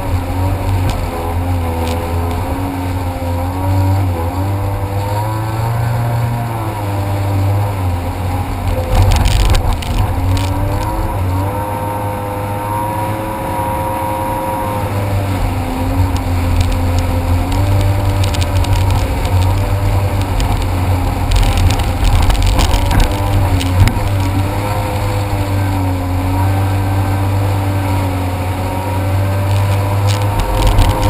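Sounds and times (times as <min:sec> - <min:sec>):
jet ski engine running: 0:00.0 - 0:31.0.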